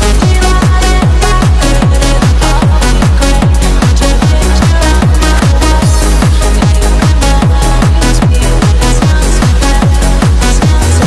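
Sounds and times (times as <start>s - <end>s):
deep sustained bass: 0.0s - 11.0s
fast kick drum: 0.0s - 11.0s.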